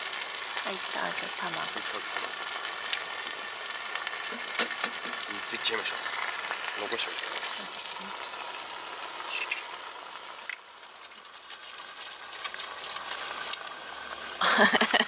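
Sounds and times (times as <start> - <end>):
crackles of frying: 0.0 - 15.0
ham and eggs sizzling in a pan: 0.0 - 15.0.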